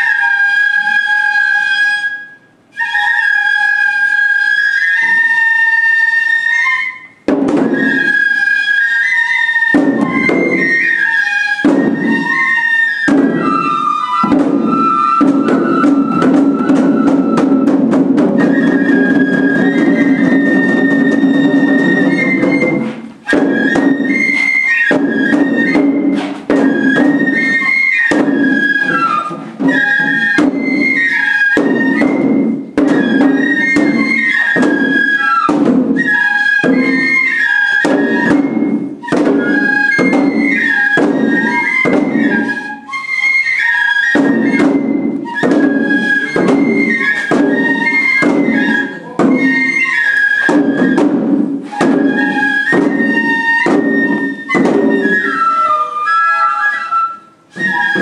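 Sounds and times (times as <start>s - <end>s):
bamboo flute melody: 0.0s - 58.0s
taiko drums beaten quickly: 7.2s - 55.6s, 57.6s - 58.0s.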